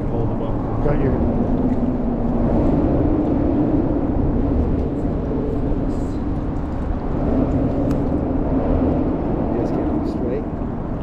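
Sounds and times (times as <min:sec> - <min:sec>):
low rumbling engine hum: 0:00.0 - 0:11.0.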